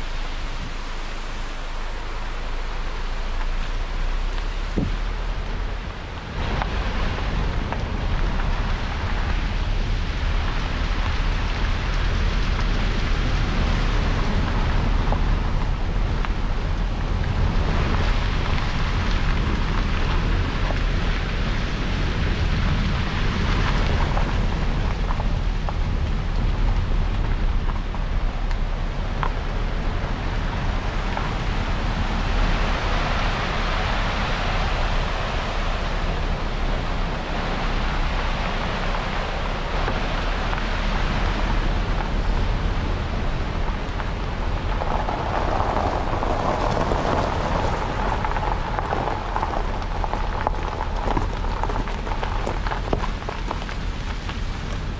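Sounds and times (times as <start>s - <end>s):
low steady rumble: 0.0s - 54.9s.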